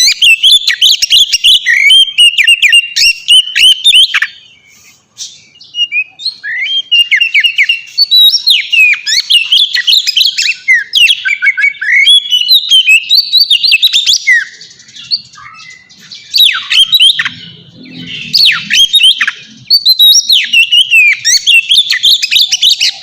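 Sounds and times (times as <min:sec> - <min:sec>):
songbird singing whistled notes: 0:00.0 - 0:23.0.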